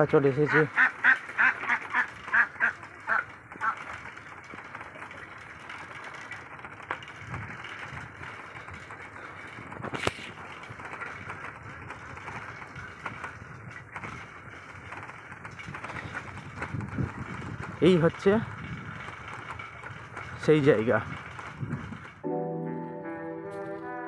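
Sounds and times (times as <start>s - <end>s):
bicycle tyres rolling on dirt: 0.0s - 22.2s.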